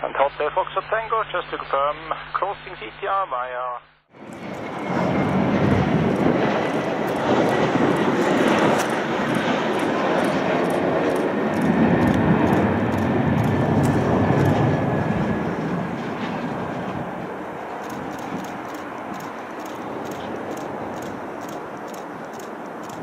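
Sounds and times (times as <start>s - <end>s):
jet airliner engines roaring: 4.1s - 23.0s.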